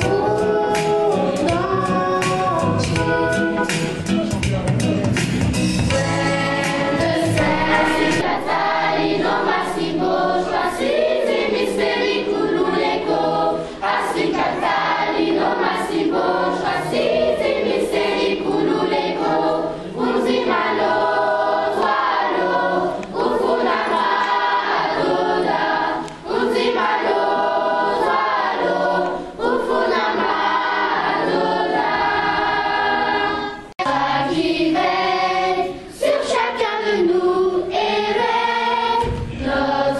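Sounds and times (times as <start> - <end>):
children's choir singing: 0.0 - 4.0, 5.8 - 39.9.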